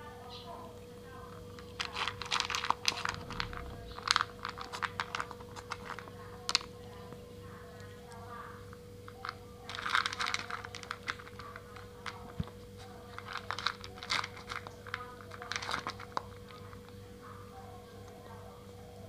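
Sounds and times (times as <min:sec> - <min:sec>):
cat crunching dry kibble: 0:01.4 - 0:17.2.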